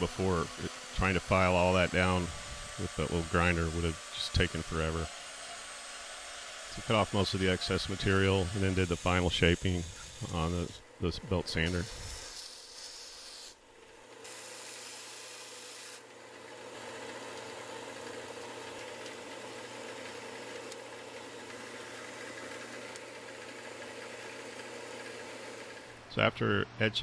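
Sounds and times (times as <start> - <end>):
belt sander grinding steel: 0.0 - 26.0.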